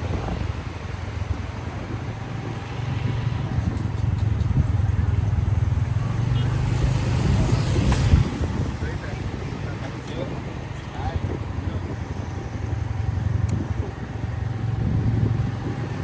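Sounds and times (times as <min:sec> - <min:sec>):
road rumble: 0:00.0 - 0:16.0
vehicle engine hum: 0:00.0 - 0:16.0.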